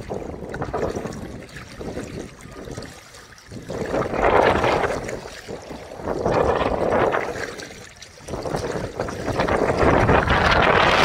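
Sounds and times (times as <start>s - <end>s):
seawater sloshing and lapping: 0.0s - 11.0s.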